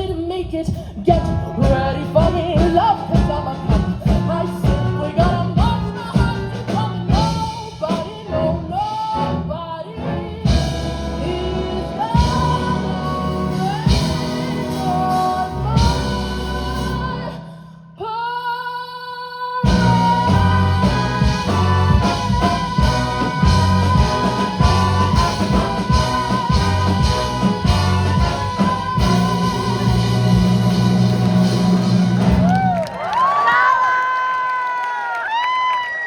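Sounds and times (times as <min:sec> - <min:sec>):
symphony orchestra swing music: 0:00.0 - 0:17.5, 0:19.7 - 0:32.8
woman singing: 0:00.0 - 0:31.3.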